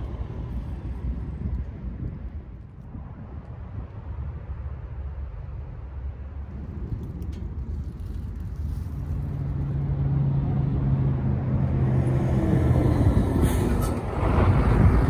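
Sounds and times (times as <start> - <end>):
truck engine approaching: 0.0 - 15.0.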